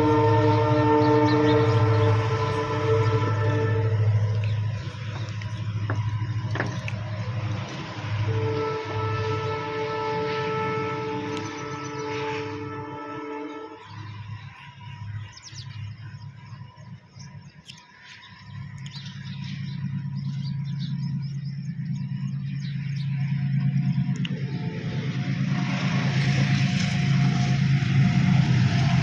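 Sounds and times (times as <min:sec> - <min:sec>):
birds chirping: 0:00.0 - 0:27.7
engine running low: 0:00.0 - 0:29.0.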